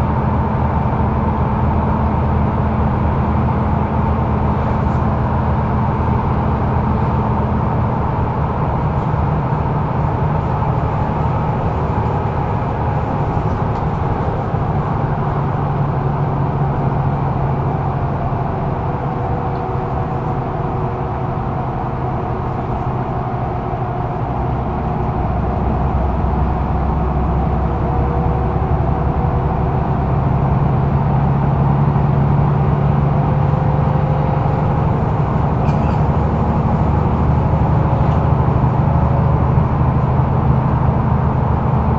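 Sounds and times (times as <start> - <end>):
bus engine humming from inside: 0.0 - 41.9.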